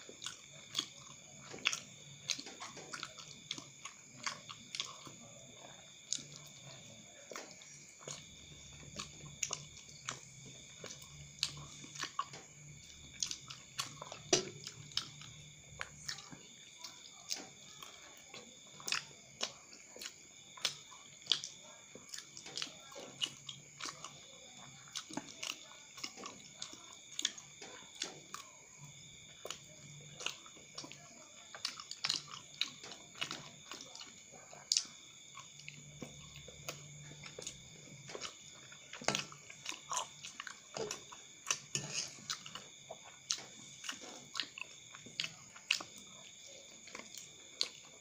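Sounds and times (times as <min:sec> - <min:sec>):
wet chewing and biting: 0:00.0 - 0:48.0.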